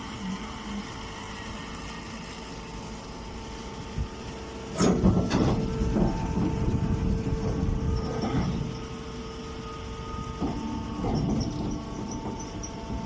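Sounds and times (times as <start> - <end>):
hay baler running: 0.0 - 13.0.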